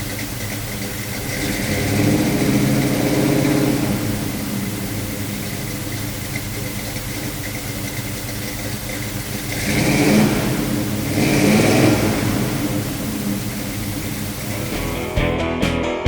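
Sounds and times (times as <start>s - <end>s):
truck engine idling and revving: 0.0s - 15.3s.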